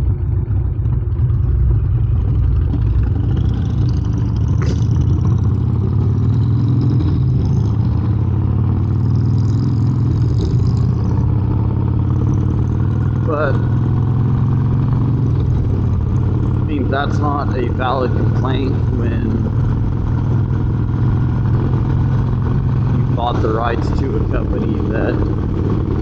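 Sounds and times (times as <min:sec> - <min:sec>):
motorcycle engine rumbling: 0:00.0 - 0:26.0.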